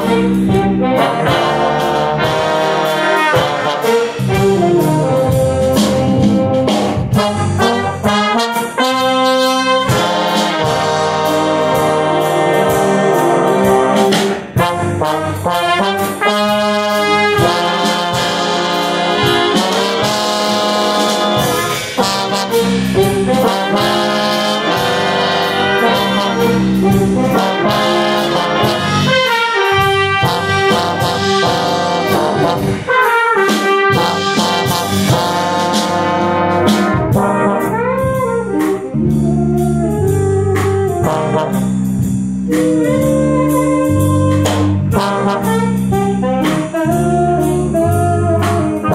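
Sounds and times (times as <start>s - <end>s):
brass band playing: 0.0s - 48.9s
trombone: 0.0s - 48.9s.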